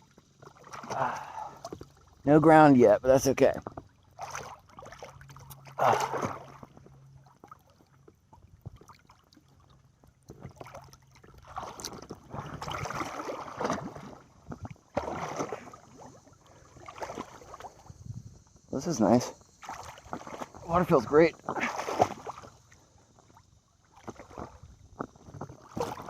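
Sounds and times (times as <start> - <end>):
water splashing and sloshing: 0.0 - 26.0.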